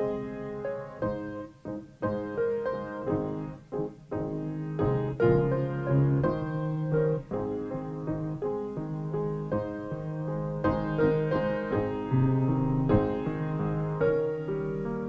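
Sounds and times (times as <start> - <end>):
slow piano prelude: 0.0 - 15.0.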